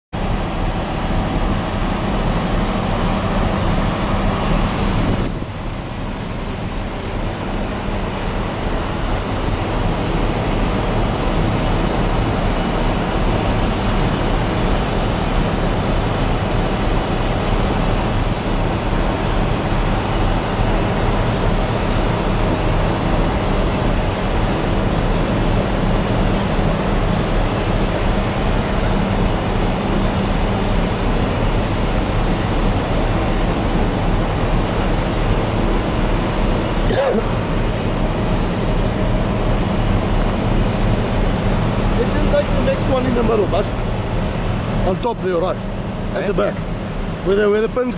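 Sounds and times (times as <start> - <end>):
heavy vehicle engine running: 0.2 - 47.9.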